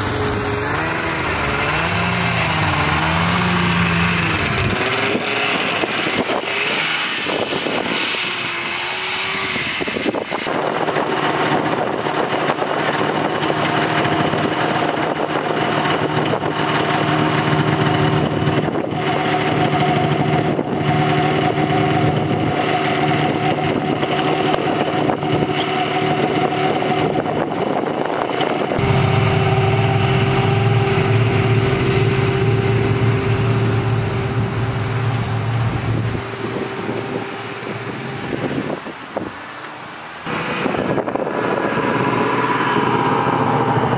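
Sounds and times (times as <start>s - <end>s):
snowmobile engine running: 0.0s - 38.9s, 40.3s - 43.9s
car engine pulling away: 0.0s - 43.9s.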